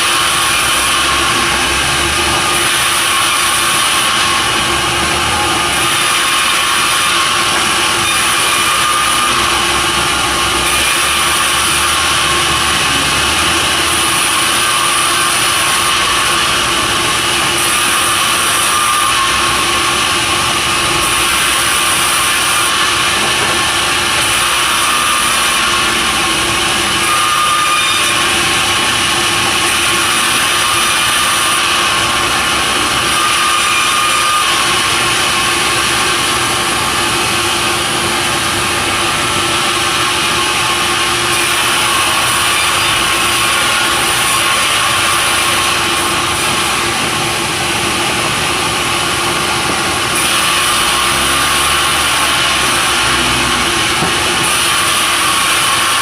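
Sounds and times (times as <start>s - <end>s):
sawmill saw cutting timber: 0.0s - 56.0s.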